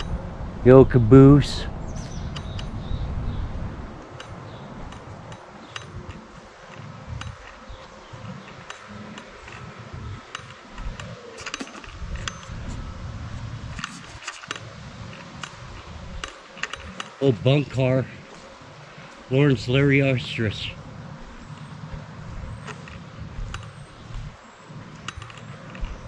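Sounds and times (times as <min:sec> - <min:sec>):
wind rumbling on microphone: 0:00.0 - 0:26.0
light clicks: 0:02.0 - 0:02.9, 0:04.0 - 0:17.4, 0:18.2 - 0:26.0.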